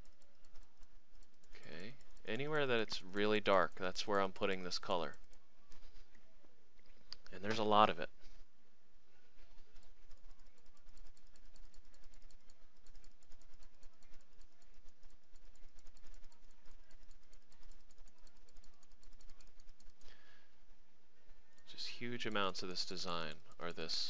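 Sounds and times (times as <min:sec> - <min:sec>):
mouse button clicking rapidly: 0:00.0 - 0:05.8, 0:07.1 - 0:08.0, 0:09.6 - 0:20.4, 0:21.5 - 0:24.0.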